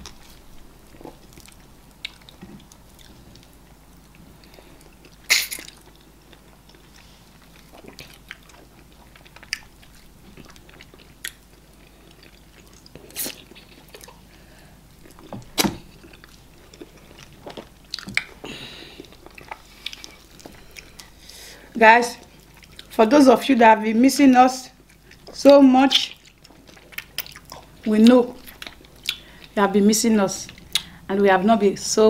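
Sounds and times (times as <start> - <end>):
close chewing and eating: 0.0 - 23.5, 24.7 - 29.7, 30.4 - 31.1.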